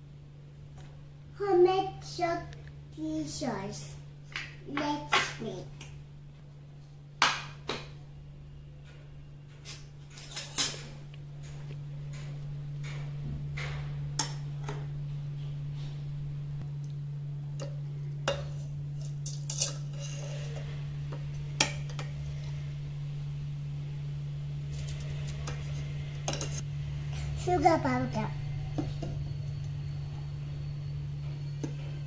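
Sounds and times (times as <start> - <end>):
low hum: 5.3 - 32.0.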